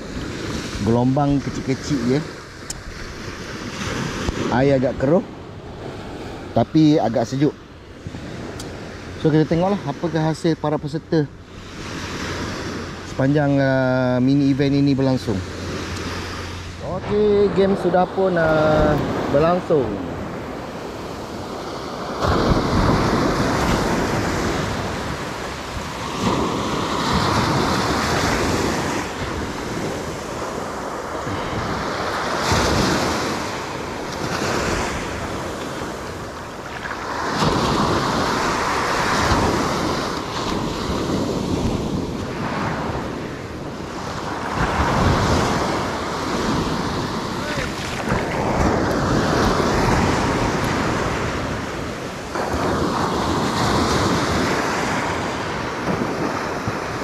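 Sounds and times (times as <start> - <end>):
small waves washing on sand: 0.0 - 57.0
wind buffeting microphone: 0.0 - 57.0.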